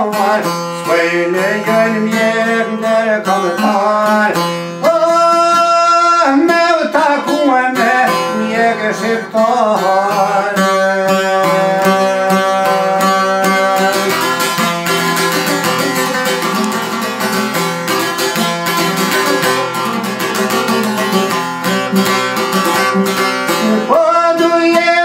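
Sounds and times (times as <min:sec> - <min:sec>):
long-necked lute strummed rapidly: 0:00.0 - 0:25.0.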